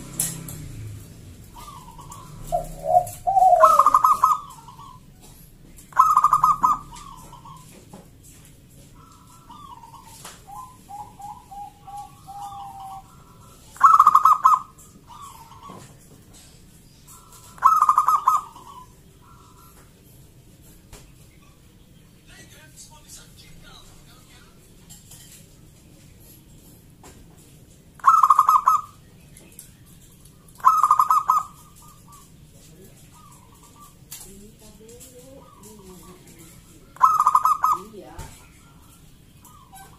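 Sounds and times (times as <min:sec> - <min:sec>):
doves cooing: 0:00.0 - 0:22.0, 0:27.6 - 0:39.9.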